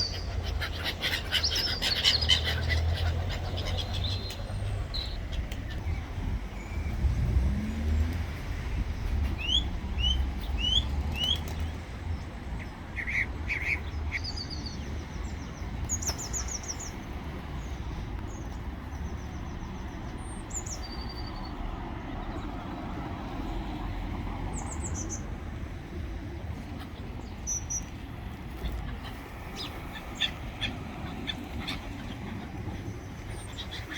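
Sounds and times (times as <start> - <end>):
birds chirping: 0.0 - 22.5, 27.0 - 33.9.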